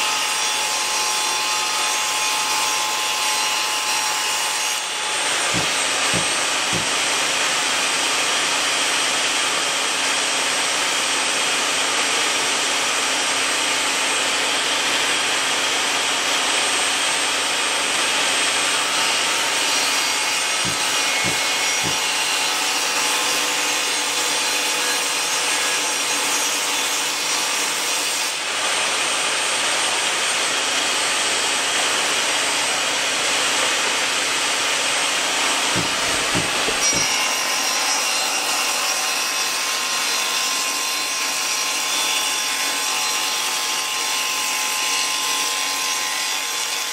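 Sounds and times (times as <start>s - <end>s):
table saw cutting wood: 0.0s - 46.9s.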